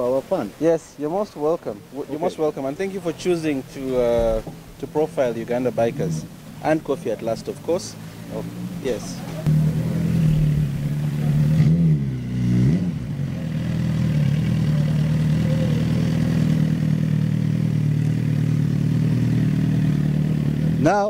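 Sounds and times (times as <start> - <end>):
motorcycle engine idling and revving: 2.1 - 21.0.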